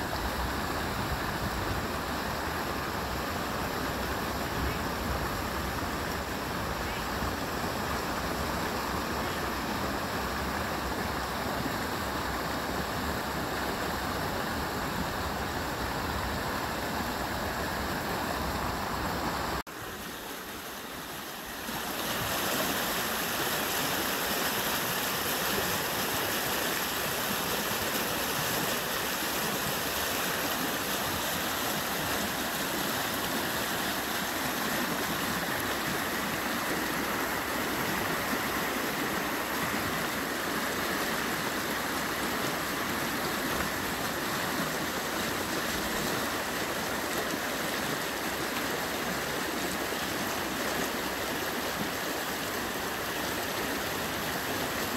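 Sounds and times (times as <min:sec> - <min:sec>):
creek water rushing over rocks: 0:00.0 - 0:54.9.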